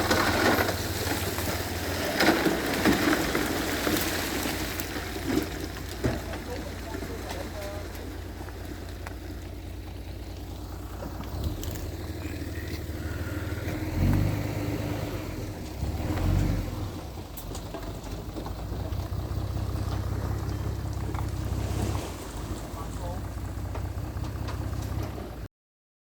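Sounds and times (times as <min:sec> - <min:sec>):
diesel machinery droning: 0:00.0 - 0:25.5.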